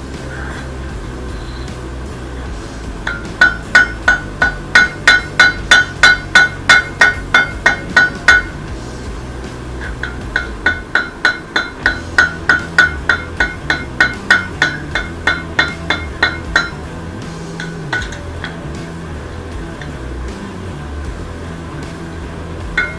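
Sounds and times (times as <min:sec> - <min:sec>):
hammer striking metal on anvil: 0:02.5 - 0:22.9.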